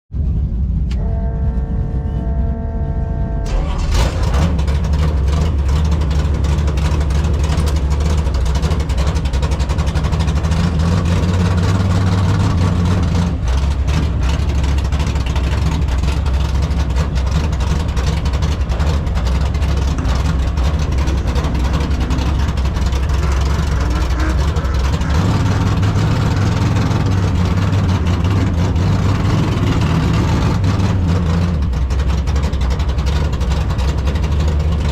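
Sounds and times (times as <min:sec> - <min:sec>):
car engine rumbling: 0:00.1 - 0:34.9.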